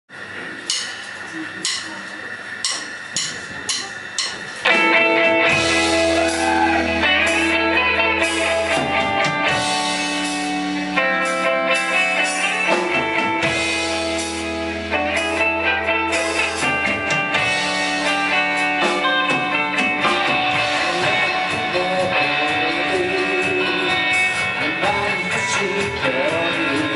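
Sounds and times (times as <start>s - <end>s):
rock band playing live: 0.2s - 26.9s.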